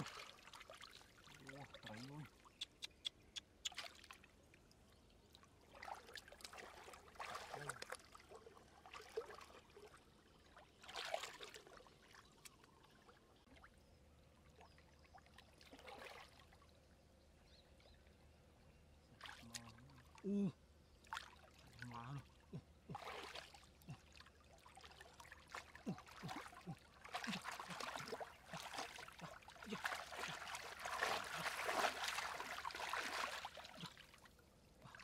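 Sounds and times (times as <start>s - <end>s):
muddy water sloshing and splashing: 0.0s - 17.2s, 19.0s - 35.0s.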